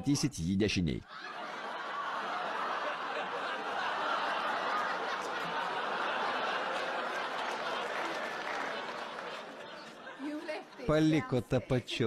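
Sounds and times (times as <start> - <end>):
studio audience laughing: 1.1 - 10.8.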